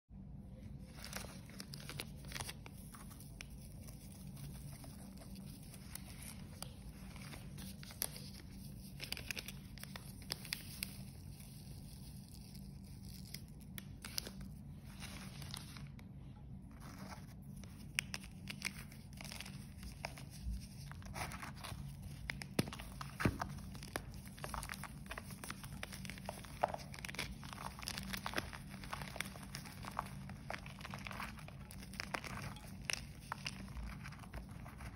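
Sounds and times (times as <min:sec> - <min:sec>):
chalk crunching and crackling: 0:00.7 - 0:34.9.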